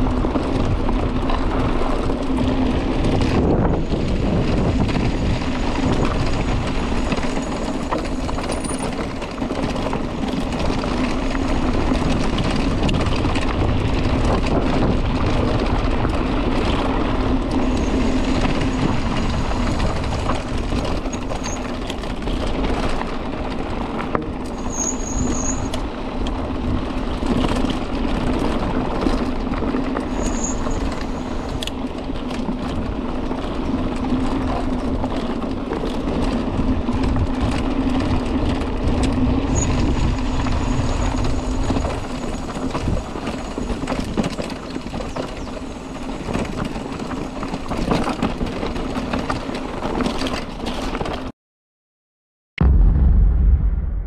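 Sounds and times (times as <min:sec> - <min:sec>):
bike rattling over bumps: 0:00.0 - 0:51.3
bike tyres rumbling on gravel: 0:00.0 - 0:51.3.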